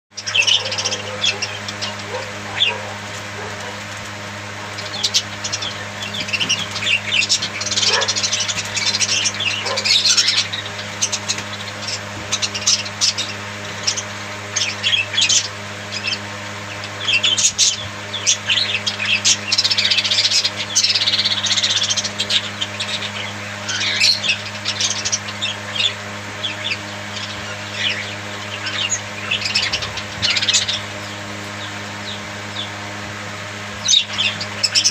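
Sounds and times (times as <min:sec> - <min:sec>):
budgerigars chirping: 0:00.2 - 0:32.8, 0:33.7 - 0:34.9
steady low hum: 0:00.2 - 0:34.9.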